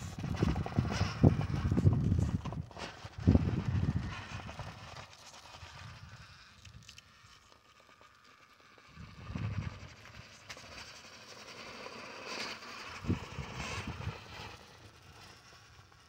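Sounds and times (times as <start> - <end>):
small electric motor whining: 0.0 - 16.0.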